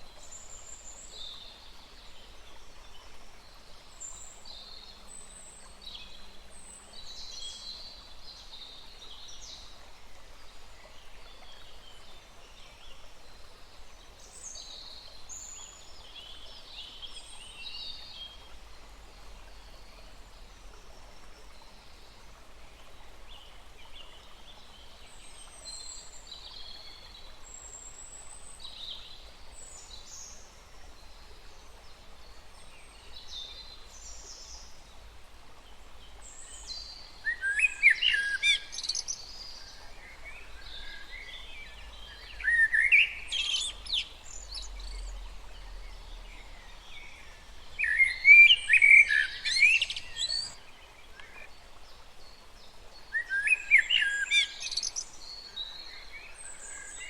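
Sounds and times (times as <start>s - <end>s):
songbirds chirping: 0.0s - 57.0s
stream flowing: 0.0s - 57.0s.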